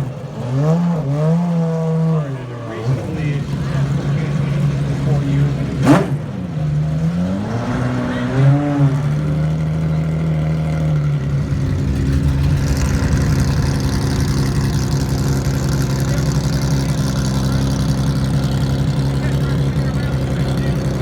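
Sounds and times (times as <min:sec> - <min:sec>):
race car engine blipped and idling: 0:00.0 - 0:21.0.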